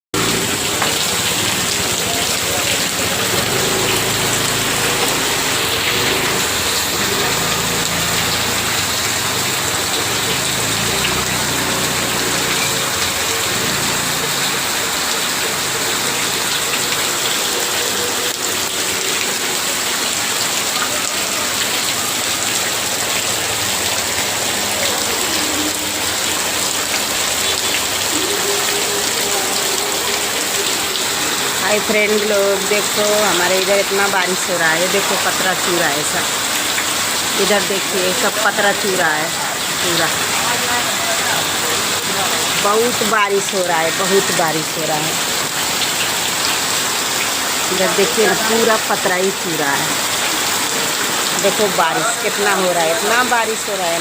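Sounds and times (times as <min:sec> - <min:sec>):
heavy rain on a tin roof: 0:00.2 - 0:54.0.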